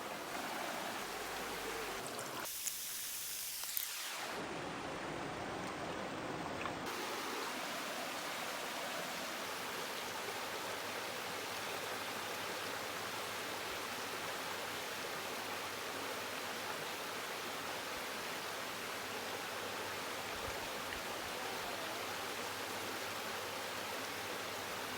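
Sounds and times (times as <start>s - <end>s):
creek water rushing: 0.0s - 2.5s, 3.9s - 24.9s.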